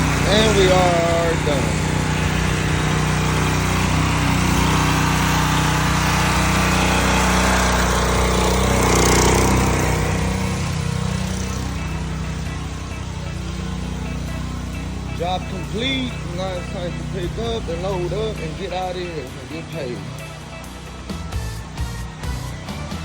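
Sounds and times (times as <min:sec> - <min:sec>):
pressure washer engine running: 0:00.0 - 0:23.0.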